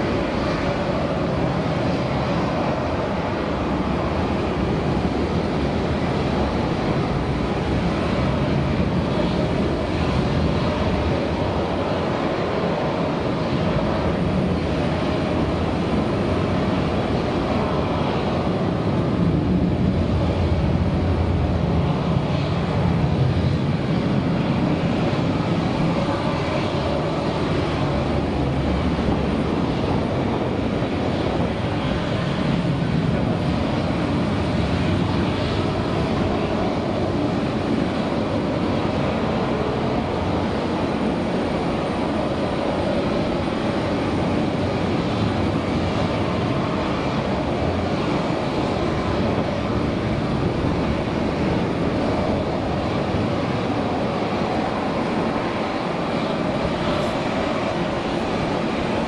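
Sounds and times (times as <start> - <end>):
jet engine noise: 0.0 - 59.0.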